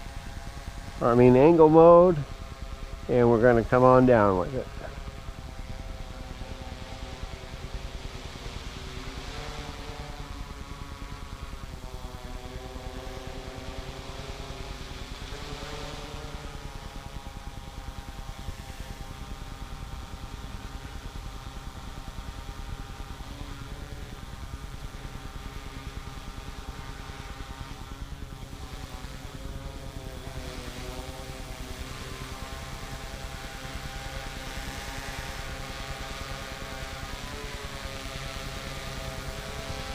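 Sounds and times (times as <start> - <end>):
quadcopter propellers whining: 0.0 - 39.9.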